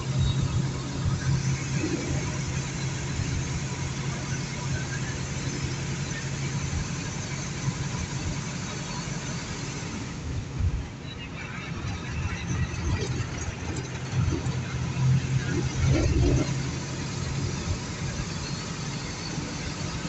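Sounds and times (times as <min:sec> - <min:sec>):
bus engine drone: 0:00.0 - 0:20.0
road and wind noise: 0:00.0 - 0:20.0.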